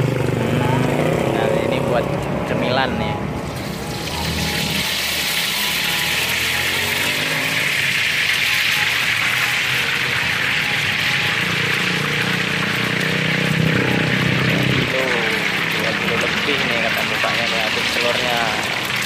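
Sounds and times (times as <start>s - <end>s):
batter sizzling in hot oil: 3.4s - 19.0s.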